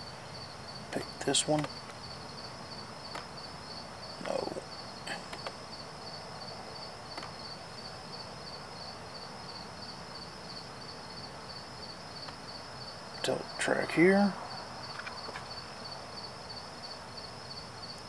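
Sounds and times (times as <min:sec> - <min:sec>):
night insects chirping: 0:00.0 - 0:18.0.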